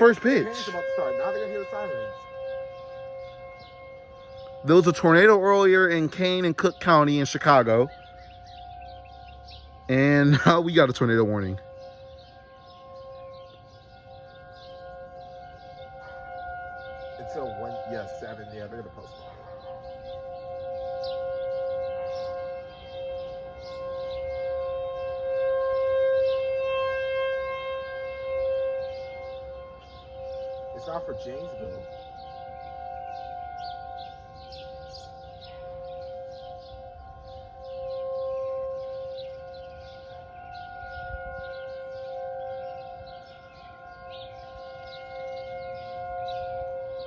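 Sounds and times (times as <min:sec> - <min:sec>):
tornado warning sirens wailing: 0:00.0 - 0:47.0.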